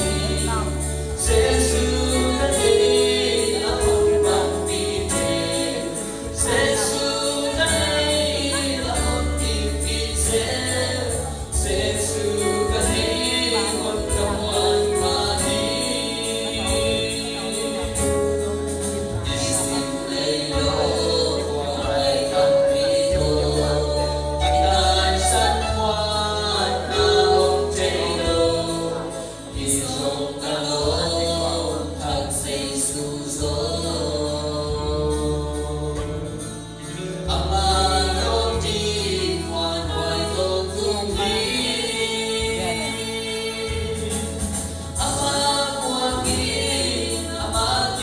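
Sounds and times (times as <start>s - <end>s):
man and woman singing gospel: 0.0s - 48.0s.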